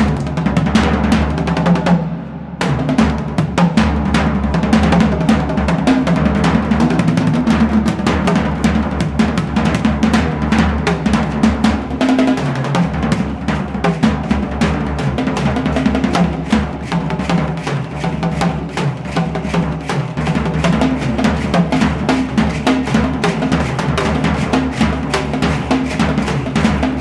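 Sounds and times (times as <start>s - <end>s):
fast drum-heavy music: 0.0s - 27.0s.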